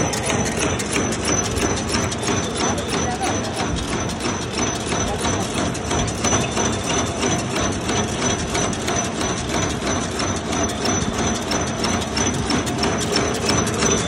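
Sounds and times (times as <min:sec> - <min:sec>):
machine drone: 0:00.0 - 0:14.0.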